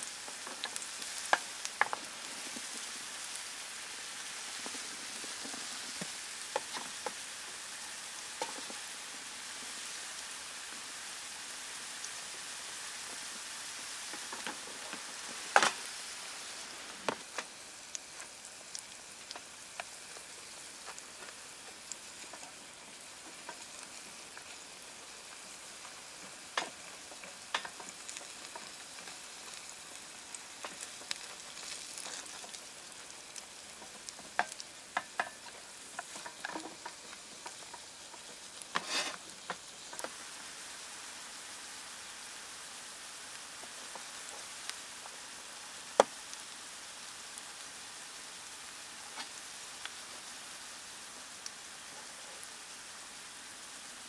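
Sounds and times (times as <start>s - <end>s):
patties sizzling in oil: 0.0s - 54.0s.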